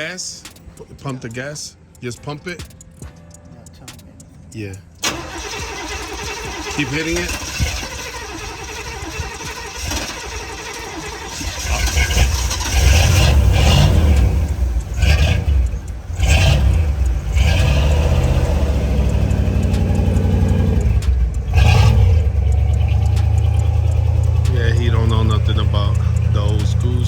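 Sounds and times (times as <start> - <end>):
car engine cranking and idling: 4.8 - 27.0
engine revving: 5.0 - 27.0.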